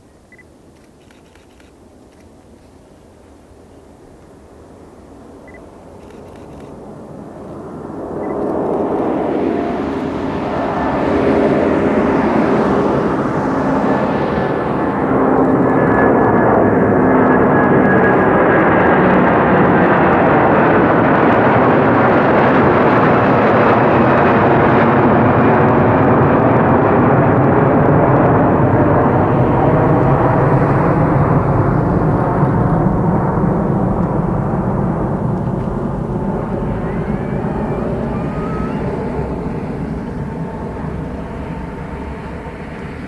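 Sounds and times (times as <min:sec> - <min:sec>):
jet airliner roar at takeoff: 0:02.4 - 0:43.0.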